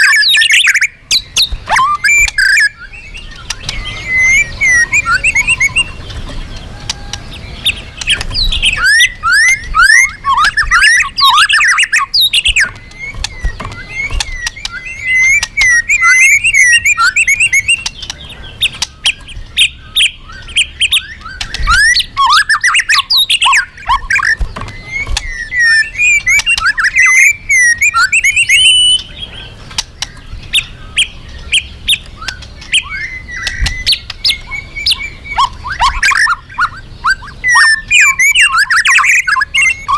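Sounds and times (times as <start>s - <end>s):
bird singing whistles and chips: 0.0s - 39.9s.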